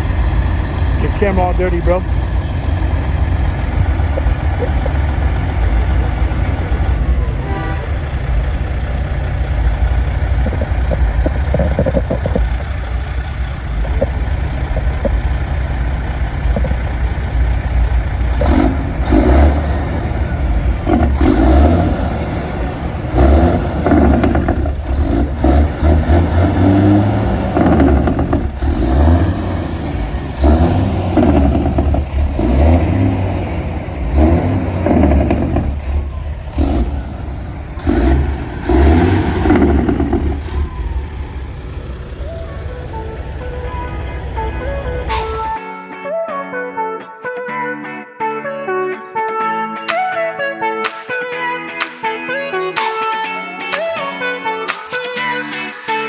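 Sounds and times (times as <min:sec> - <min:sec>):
truck engine rumbling: 0:00.0 - 0:45.6.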